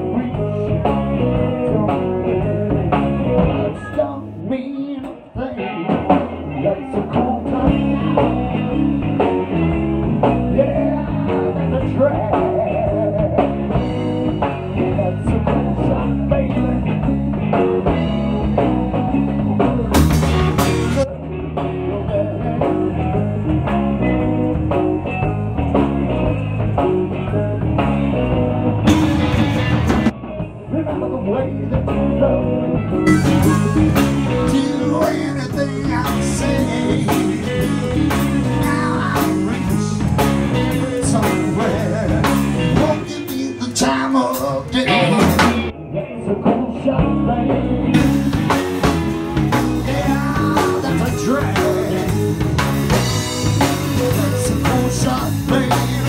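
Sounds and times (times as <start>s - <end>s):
person singing: 0.0s - 24.3s, 26.8s - 56.0s
live band playing: 0.0s - 56.0s.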